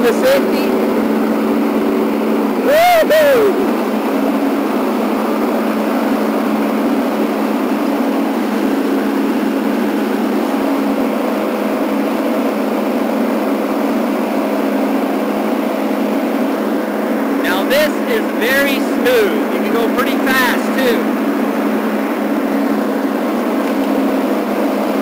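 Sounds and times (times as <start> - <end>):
lawn tractor engine running: 0.0 - 25.0
mower cutting grass: 0.0 - 25.0.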